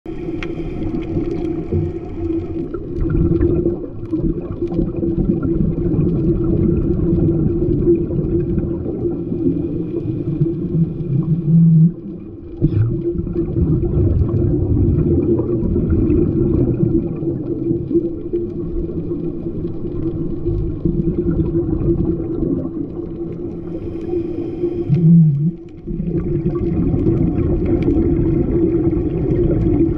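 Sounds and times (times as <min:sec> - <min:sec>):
muffled underwater rumble: 0:00.0 - 0:29.9.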